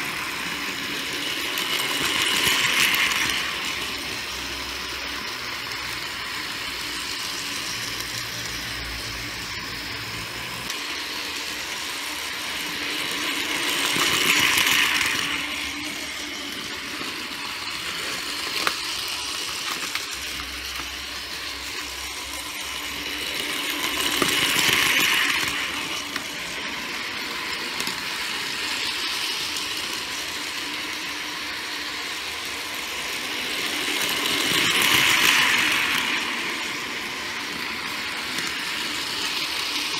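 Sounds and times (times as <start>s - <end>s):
wheels rattling over plastic rails: 0.0s - 8.5s, 10.6s - 39.9s
toy train motors whirring: 0.0s - 39.9s.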